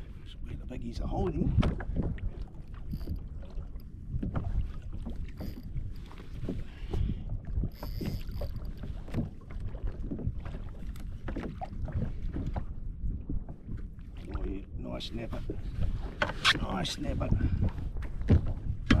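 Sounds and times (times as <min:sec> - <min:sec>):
water slapping against hull: 0:00.0 - 0:19.0
wind buffeting microphone: 0:00.0 - 0:19.0.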